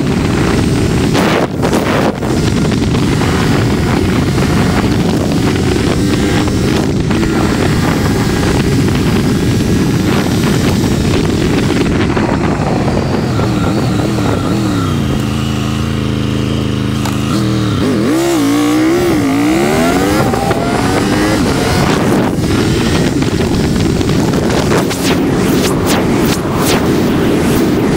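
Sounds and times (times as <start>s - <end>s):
motorcycle engine running: 0.0s - 27.9s
wind rushing: 0.0s - 27.9s.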